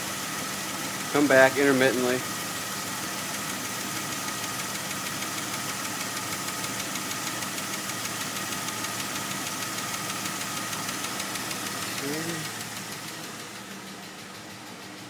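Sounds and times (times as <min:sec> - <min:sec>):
car engine idling: 0:00.0 - 0:15.0
light fast engine ticking: 0:00.0 - 0:15.0.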